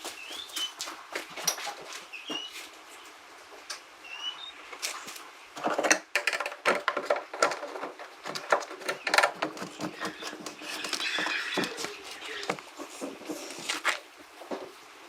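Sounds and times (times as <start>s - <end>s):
rustling or scraping: 0.0s - 3.7s, 4.8s - 14.9s.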